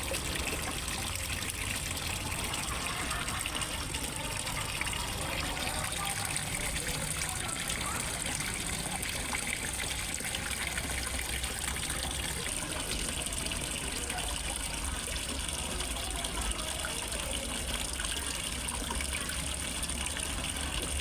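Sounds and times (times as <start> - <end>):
water splashing into a pond: 0.0 - 21.0.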